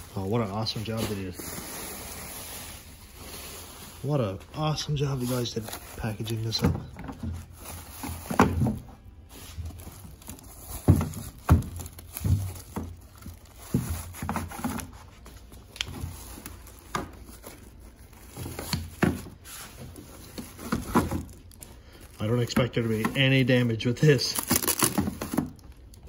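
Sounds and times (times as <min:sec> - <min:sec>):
rags and plastic bags rustling: 0:00.0 - 0:26.0.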